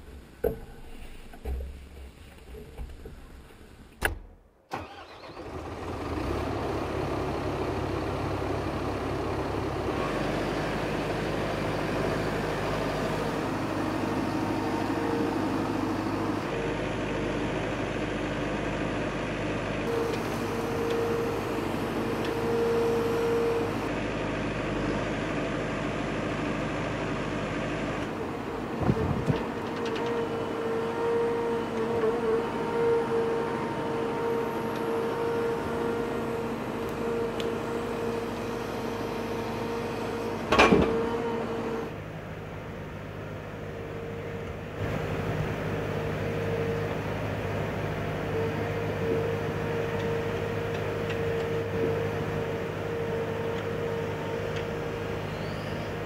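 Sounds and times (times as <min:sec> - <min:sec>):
diesel engine running: 0:04.7 - 0:56.0.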